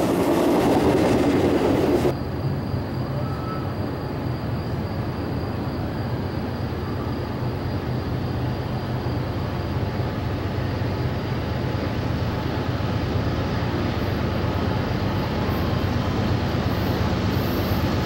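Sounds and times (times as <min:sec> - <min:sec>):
diesel locomotive rumble: 0:00.0 - 0:18.0.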